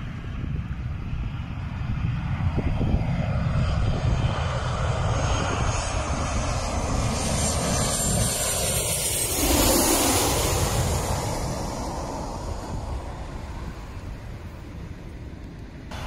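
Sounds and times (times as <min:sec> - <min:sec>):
jet plane roaring overhead: 0:00.0 - 0:16.0.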